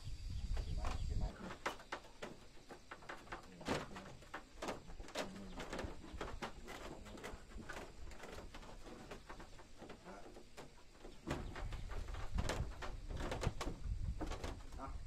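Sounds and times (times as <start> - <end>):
wood knocking on wood: 0.8 - 15.0.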